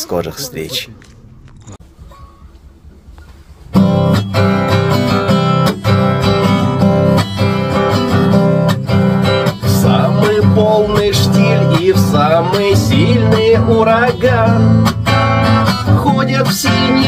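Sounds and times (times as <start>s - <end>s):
acoustic guitar strumming chords: 1.9s - 17.0s.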